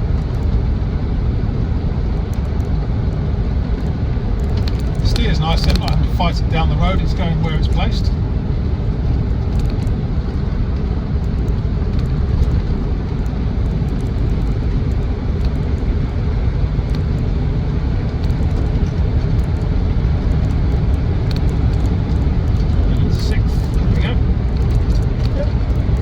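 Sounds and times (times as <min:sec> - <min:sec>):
diesel engine from inside cab: 0:00.0 - 0:26.0
road noise: 0:00.0 - 0:26.0.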